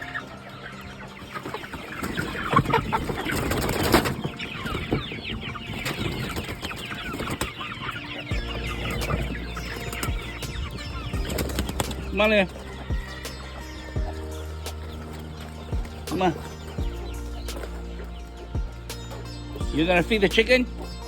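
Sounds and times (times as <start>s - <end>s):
chickens clucking and squawking: 0.0s - 21.0s.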